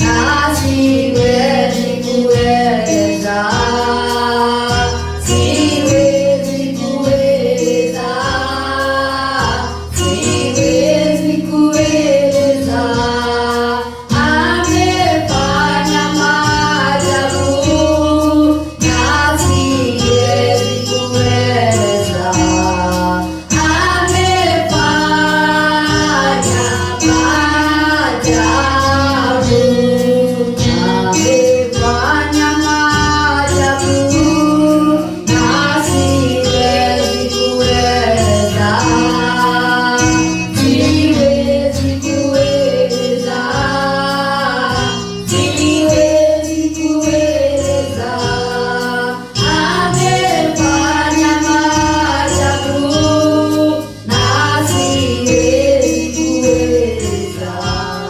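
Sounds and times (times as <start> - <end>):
gospel group singing: 0.0 - 58.0.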